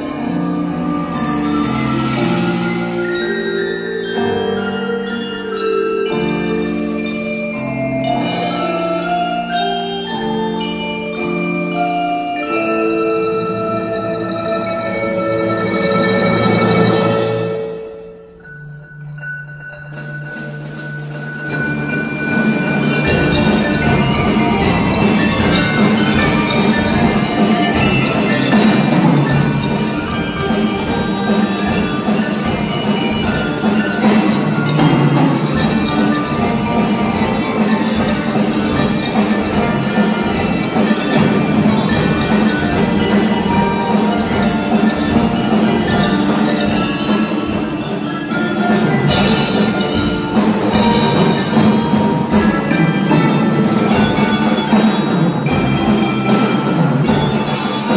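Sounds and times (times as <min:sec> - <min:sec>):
mallet percussion ensemble playing: 0:00.0 - 0:57.9.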